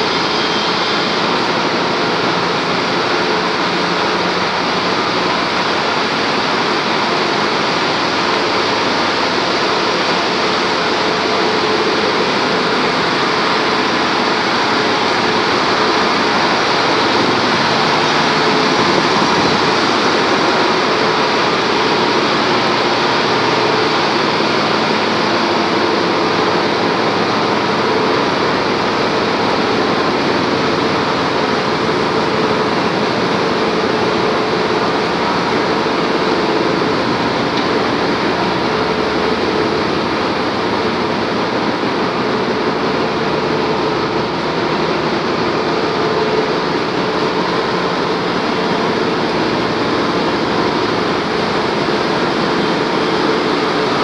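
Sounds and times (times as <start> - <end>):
engine-room machinery drone: 0.0 - 54.0.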